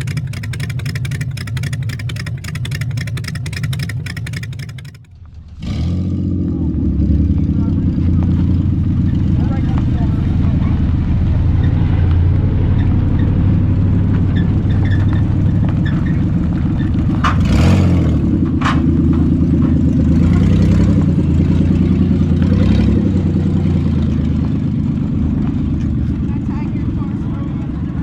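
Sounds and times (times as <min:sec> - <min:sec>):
car engine rumbling loudly: 0:00.0 - 0:28.0.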